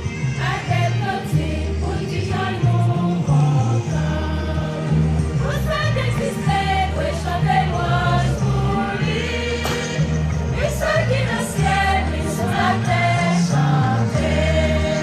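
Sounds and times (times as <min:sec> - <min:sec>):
group singing a hymn: 0:00.4 - 0:15.0.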